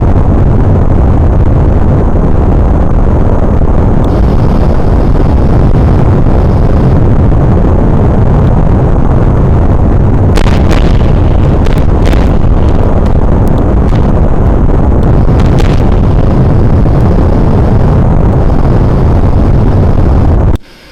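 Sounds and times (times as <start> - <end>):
airplane low rumble: 0.0 - 20.9.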